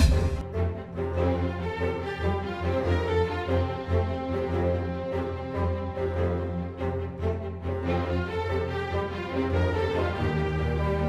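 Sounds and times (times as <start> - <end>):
background theme music: 0.0 - 11.0.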